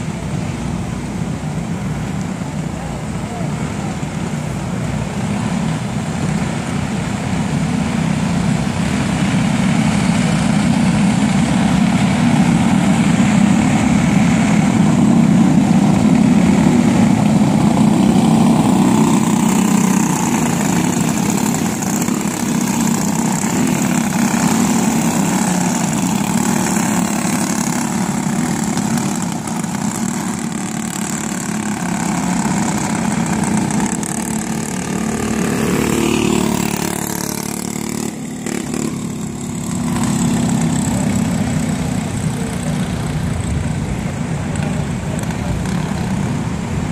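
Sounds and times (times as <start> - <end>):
racing kart engines: 0.0 - 46.9.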